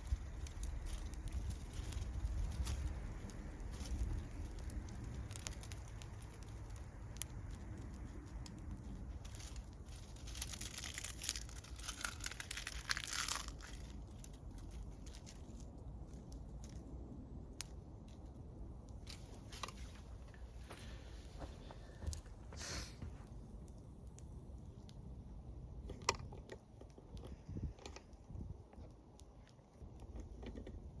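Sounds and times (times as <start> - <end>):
wood bonfire crackling: 0.0 - 31.0.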